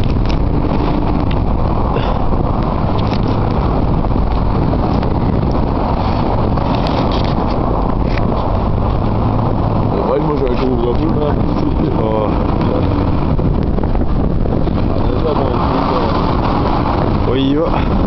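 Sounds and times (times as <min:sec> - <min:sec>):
constant rushing noise: 0:00.0 - 0:18.0
vehicle engine rumbling: 0:00.0 - 0:18.0.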